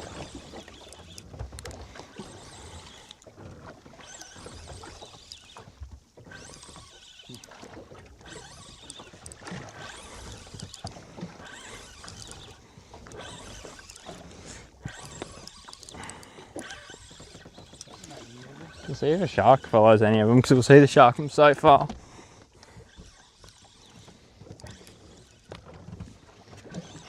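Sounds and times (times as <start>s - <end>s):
water sloshing against boat hull: 0.0s - 27.0s
wind: 0.0s - 27.0s.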